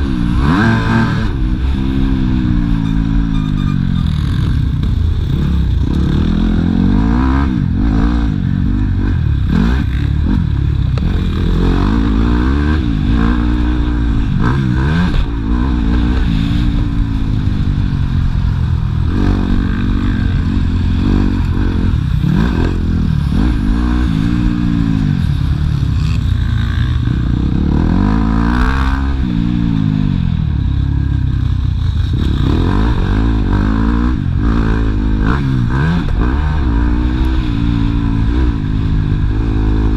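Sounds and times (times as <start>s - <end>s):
motocross bike engine revving: 0.0s - 30.4s, 31.4s - 39.9s.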